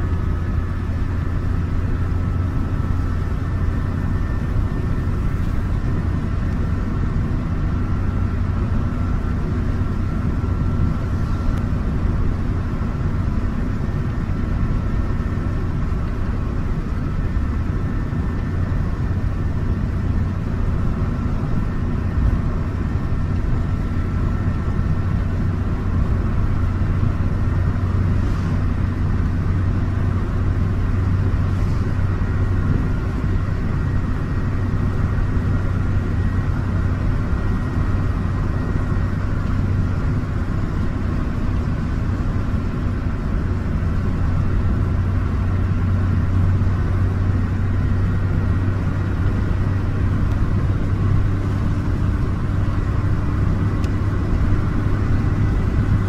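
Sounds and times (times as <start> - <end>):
car engine drone: 0.0 - 56.0
road and wind noise: 0.0 - 56.0.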